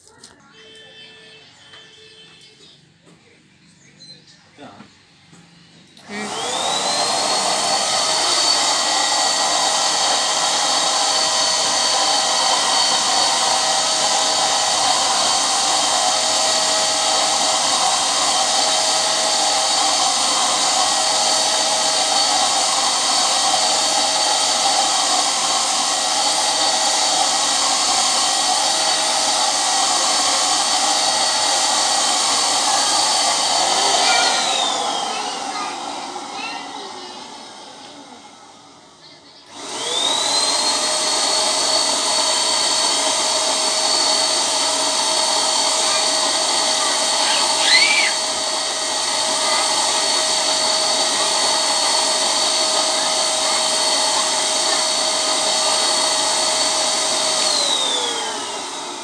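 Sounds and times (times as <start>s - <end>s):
paint sprayer motor whine: 5.4s - 59.0s.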